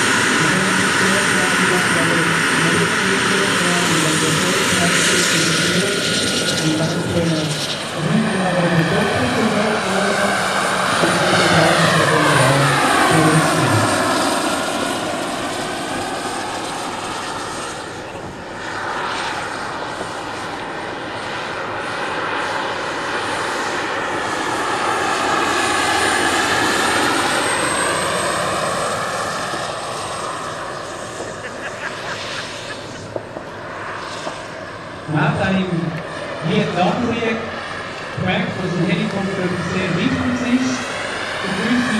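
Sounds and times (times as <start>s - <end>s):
model helicopter turbine whine: 0.0s - 41.9s.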